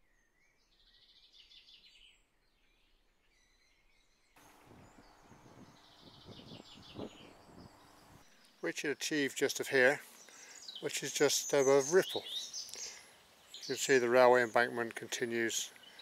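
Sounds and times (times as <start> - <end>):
birds chirping: 0.3 - 16.0.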